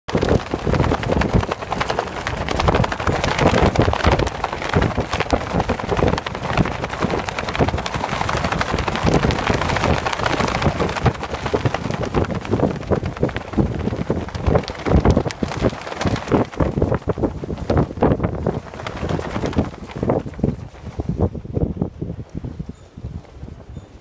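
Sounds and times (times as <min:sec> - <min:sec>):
fabric flapping in wind: 0:00.1 - 0:24.0
wind buffeting microphone: 0:00.1 - 0:24.0.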